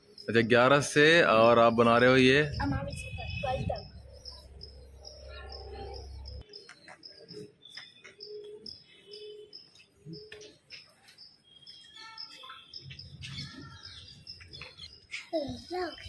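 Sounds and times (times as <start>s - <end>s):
high bird chirps: 2.5s - 16.0s.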